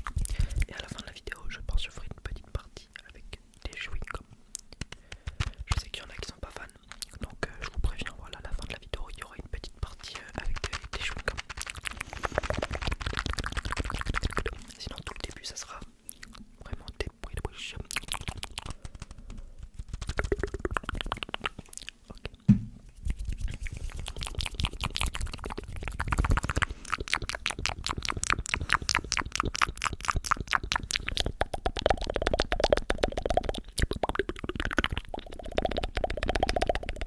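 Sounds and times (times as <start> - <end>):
wet lip and tongue clicks: 0.0 - 1.4, 2.0 - 22.4, 23.0 - 37.0.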